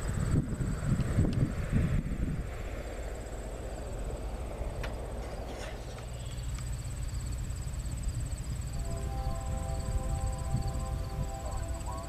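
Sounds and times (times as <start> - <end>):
insects chirping: 0.0 - 12.0
low steady rumble: 0.0 - 12.0.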